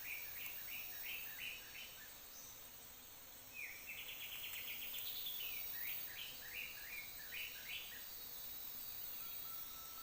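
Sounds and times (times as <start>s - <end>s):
insects hissing: 0.0s - 10.0s.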